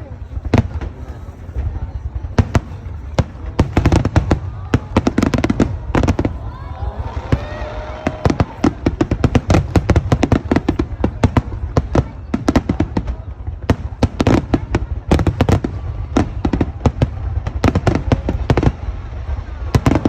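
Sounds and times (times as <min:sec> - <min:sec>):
fireworks bursting with sharp bangs: 0:00.0 - 0:20.0.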